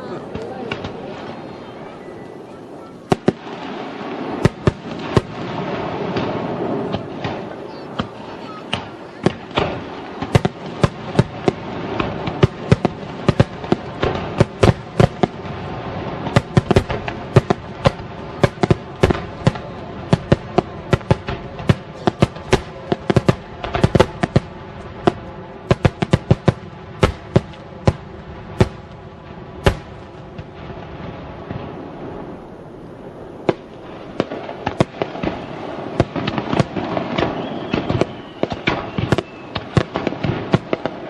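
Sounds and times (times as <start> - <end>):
crackling rumble: 0.0 - 41.0
fireworks bangs: 0.0 - 41.0.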